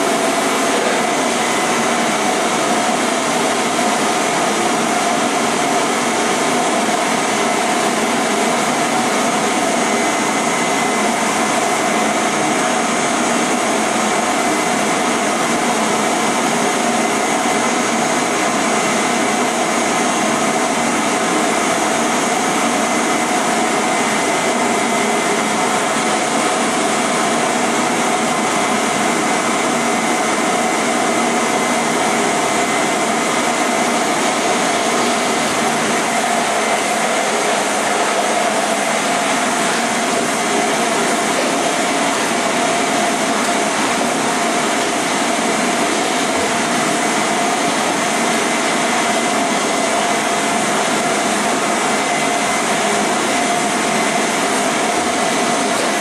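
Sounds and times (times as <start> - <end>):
vacuum cleaner motor hum: 0.0 - 56.0.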